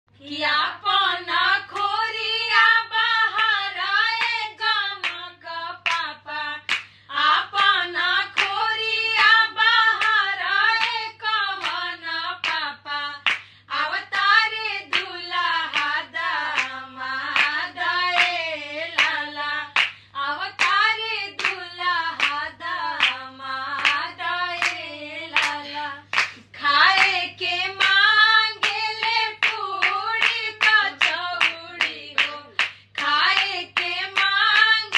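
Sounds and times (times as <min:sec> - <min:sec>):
women singing folk song: 0:00.2 - 0:34.9
hand claps: 0:01.7 - 0:02.7, 0:04.1 - 0:07.0, 0:08.3 - 0:13.5, 0:14.1 - 0:20.0, 0:20.6 - 0:23.2, 0:23.8 - 0:34.9.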